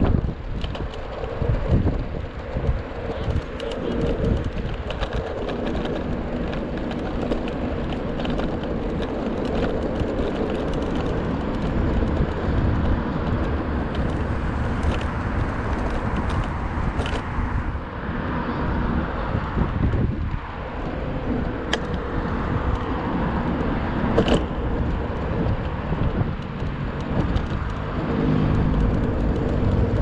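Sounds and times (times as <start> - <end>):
small clicks and rattles: 0.0 - 17.4, 19.9 - 30.0
wheels rumbling on road: 0.0 - 30.0
wind on microphone: 0.0 - 30.0.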